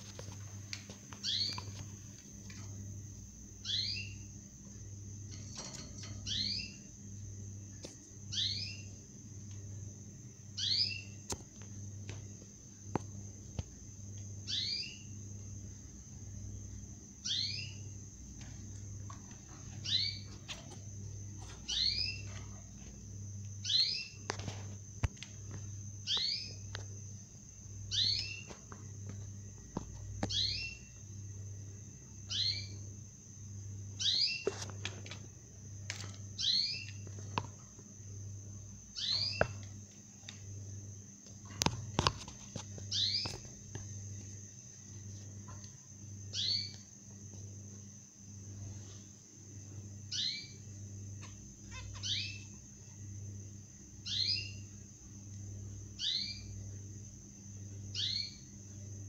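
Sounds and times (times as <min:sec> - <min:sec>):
steady high-pitched whine: 0:00.0 - 0:59.0.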